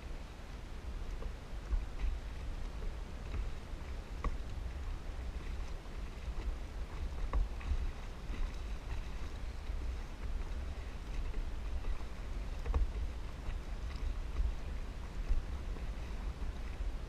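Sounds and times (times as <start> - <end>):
wind rumbling on microphone: 0.0 - 17.0
paddle splashing in water: 0.8 - 17.0.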